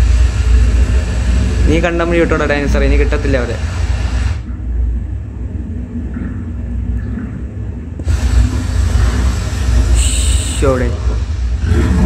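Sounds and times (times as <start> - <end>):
film soundtrack deep rumble: 0.0 - 12.0.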